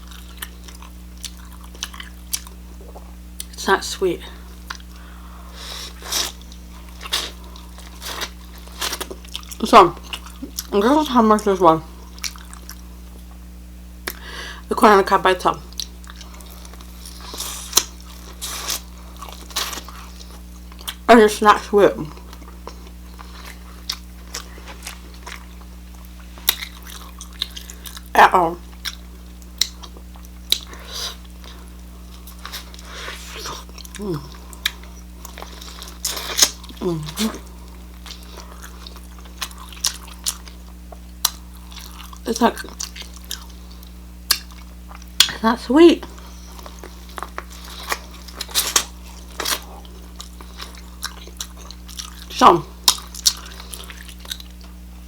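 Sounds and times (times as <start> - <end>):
chewing corn on the cob: 0.0 - 3.6, 4.5 - 11.0, 11.9 - 13.4, 15.6 - 21.1, 22.1 - 45.4, 46.0 - 54.9.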